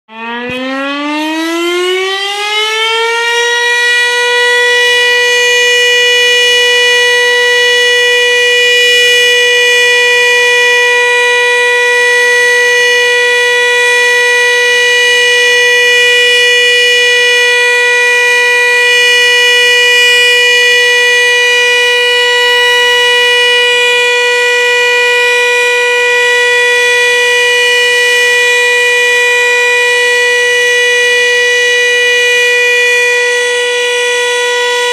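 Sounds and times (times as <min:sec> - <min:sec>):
alarm siren winding up: 0:00.1 - 0:34.9.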